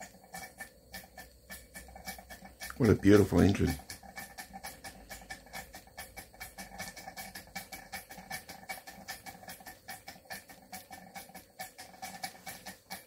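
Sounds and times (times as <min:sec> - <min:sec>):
model steam engine clicking: 0:00.0 - 0:13.0.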